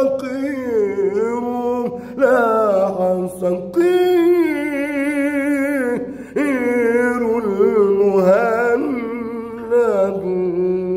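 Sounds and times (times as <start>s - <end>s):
man singing unaccompanied: 0.0s - 10.9s.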